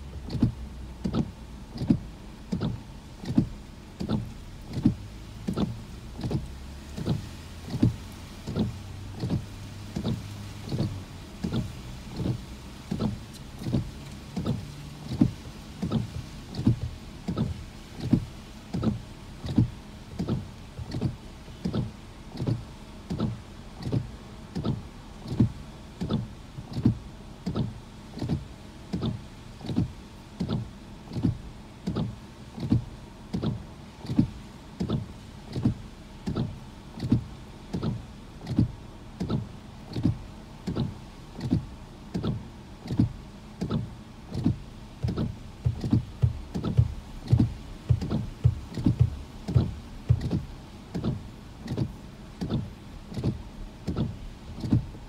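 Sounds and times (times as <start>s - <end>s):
windshield wipers swishing: 0.0s - 55.0s
wiper motor whir: 0.0s - 55.0s.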